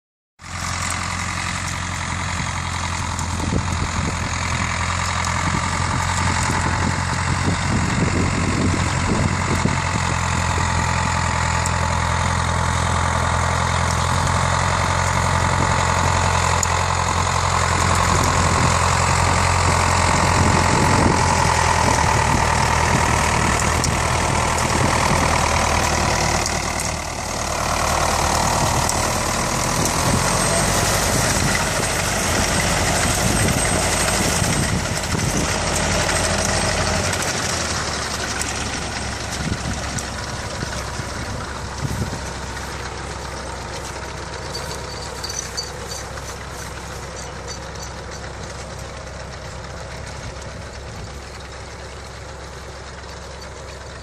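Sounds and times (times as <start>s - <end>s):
tractor diesel engine running: 0.4s - 54.0s.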